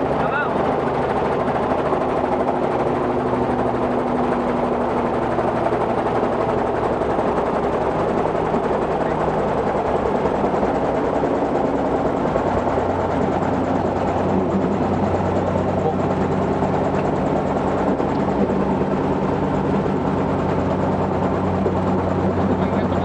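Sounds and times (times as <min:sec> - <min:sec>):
helicopter engine drone: 0:00.0 - 0:23.0
rotor blades chopping: 0:00.0 - 0:23.0.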